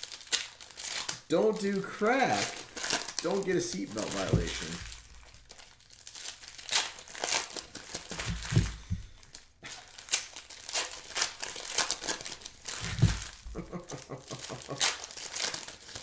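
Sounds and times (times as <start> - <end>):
plastic wrappers crinkling and tearing: 0.0 - 16.0.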